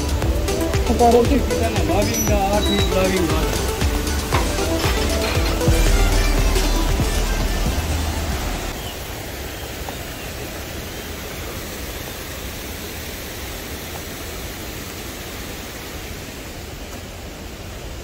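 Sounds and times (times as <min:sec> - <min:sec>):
rushing stream water: 0:00.0 - 0:18.0.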